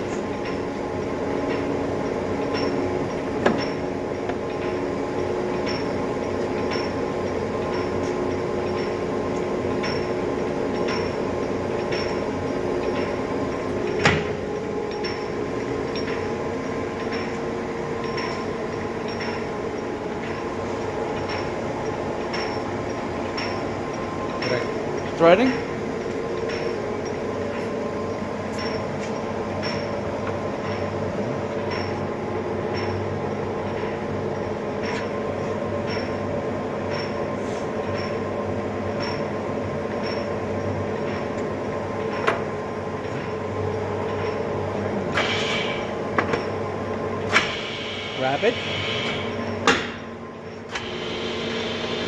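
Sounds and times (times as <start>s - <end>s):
lathe machine hum: 0.0s - 52.0s.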